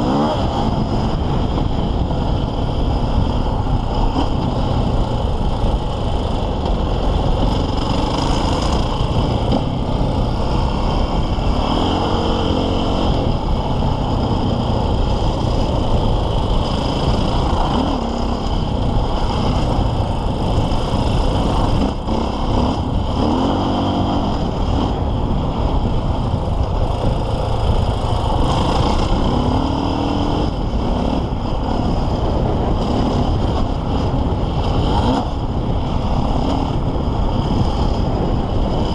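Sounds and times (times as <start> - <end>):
motorcycle engine revving: 0.0 - 38.9
wind and terrain rumble: 0.0 - 38.9.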